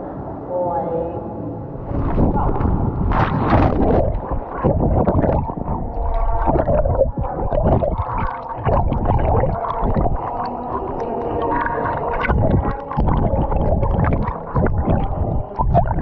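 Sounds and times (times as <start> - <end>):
muffled underwater gurgling: 1.8 - 16.0
water churning and bubbling: 1.8 - 16.0.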